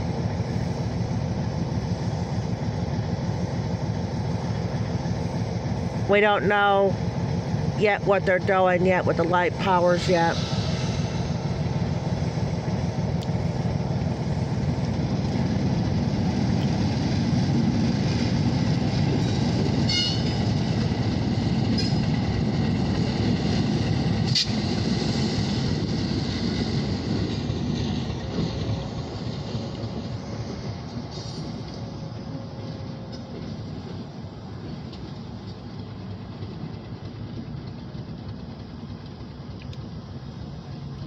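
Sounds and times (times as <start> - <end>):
diesel locomotives passing: 0.0 - 41.0.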